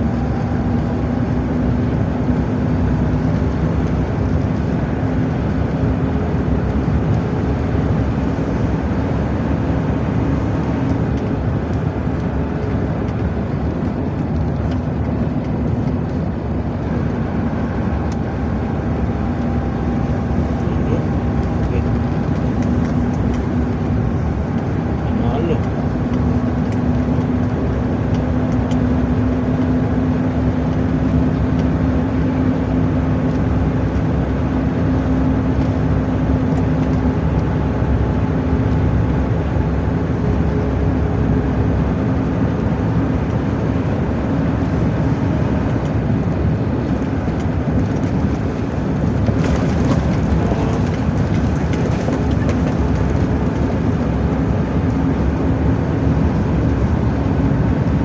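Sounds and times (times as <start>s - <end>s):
truck engine drone: 0.0s - 58.0s.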